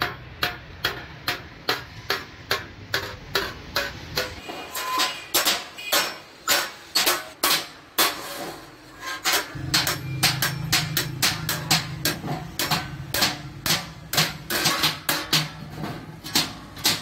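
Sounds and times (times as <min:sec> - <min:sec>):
hammer tapping on metal: 0:00.0 - 0:08.3, 0:09.4 - 0:17.0.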